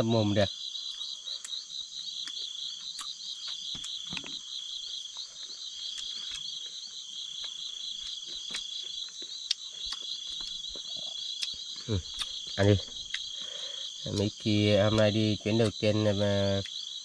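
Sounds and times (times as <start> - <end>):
insects chirping: 0.0 - 17.0
insects trilling: 0.0 - 17.0.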